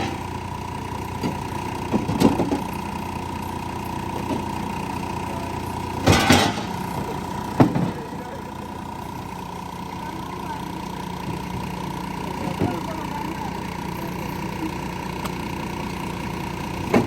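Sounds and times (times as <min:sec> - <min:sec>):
engine clatters: 0:00.0 - 0:17.0
engine idling: 0:00.0 - 0:17.0.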